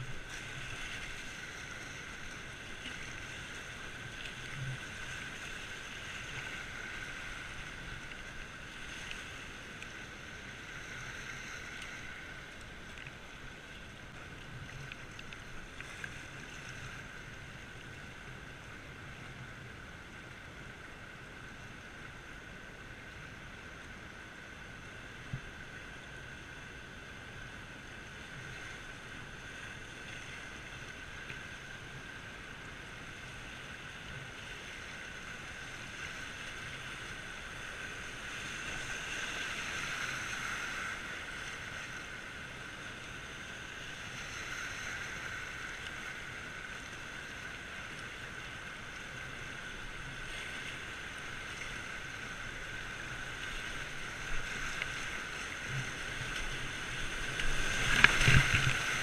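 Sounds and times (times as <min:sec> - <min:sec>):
rushing river whitewater: 0:00.0 - 0:25.3, 0:25.9 - 0:59.0.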